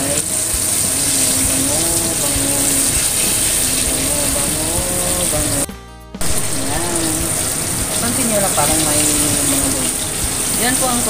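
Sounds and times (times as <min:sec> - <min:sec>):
chicken deep-frying in oil: 0:00.0 - 0:11.0
music tune: 0:00.0 - 0:11.0.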